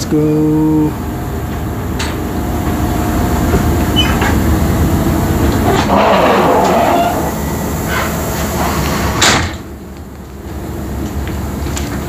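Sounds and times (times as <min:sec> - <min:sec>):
train running gear rumbling: 0:00.0 - 0:12.0.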